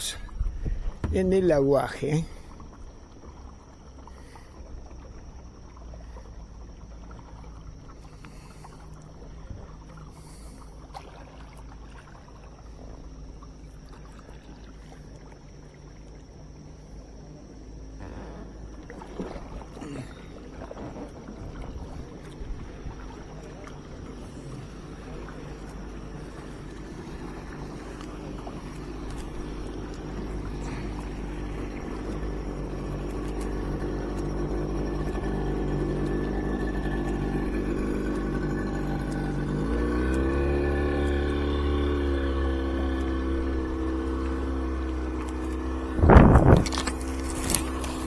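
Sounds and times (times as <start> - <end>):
motorboat engine running: 0.0 - 48.0
steady low rumble: 0.0 - 48.0
water splashing around kayak: 0.0 - 48.0.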